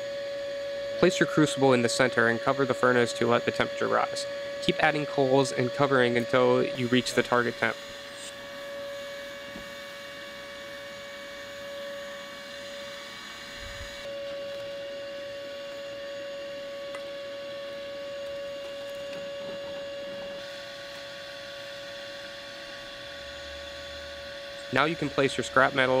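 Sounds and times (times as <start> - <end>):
shop vac blower whine: 0.0 - 26.0.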